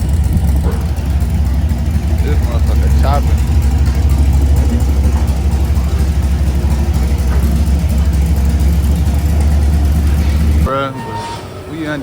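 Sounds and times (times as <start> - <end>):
car engine idling loudly: 0.0 - 10.8.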